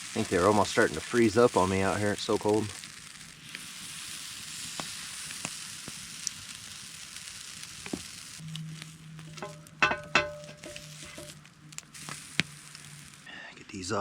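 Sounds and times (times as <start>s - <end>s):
oil popping: 0.0s - 13.3s
pancakes sizzling in oil: 0.0s - 13.3s.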